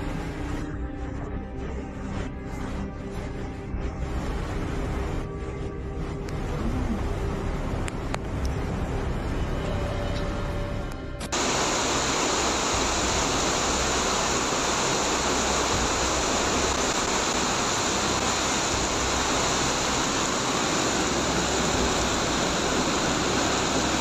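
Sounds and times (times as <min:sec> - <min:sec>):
torrential rain in wind: 0:03.3 - 0:10.4, 0:11.3 - 0:24.0.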